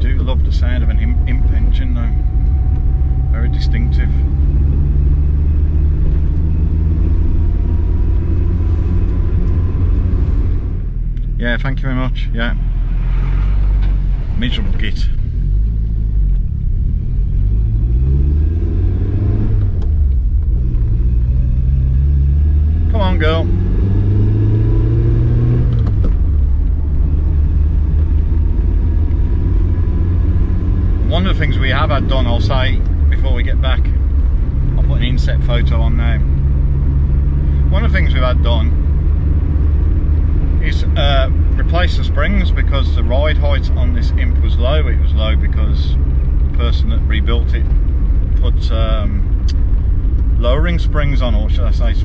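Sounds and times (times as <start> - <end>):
car engine running: 0.0 - 52.0
low road rumble: 0.0 - 52.0.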